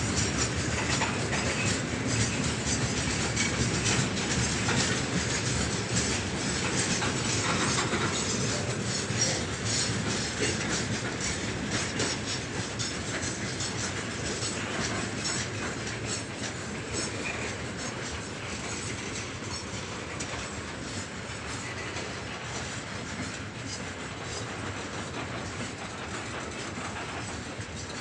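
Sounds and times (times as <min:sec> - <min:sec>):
freight wagons rumbling and rattling: 0:00.0 - 0:28.0
wheels clacking over rail joints: 0:00.0 - 0:28.0.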